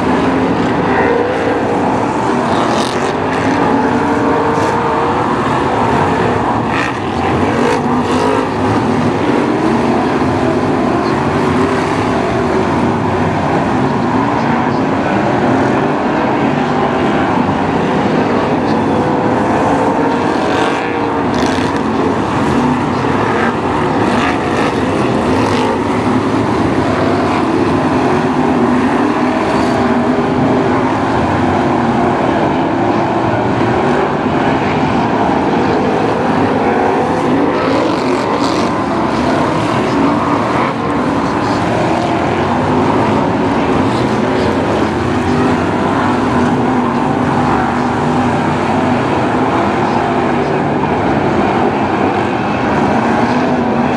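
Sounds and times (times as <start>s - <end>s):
racing car engines droning: 0.0s - 53.9s.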